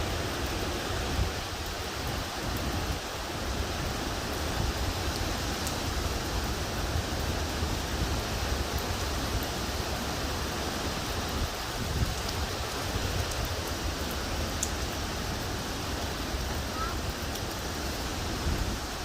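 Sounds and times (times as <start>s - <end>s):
wind and rain rushing: 0.0s - 19.0s
wind buffeting the microphone: 0.1s - 19.0s.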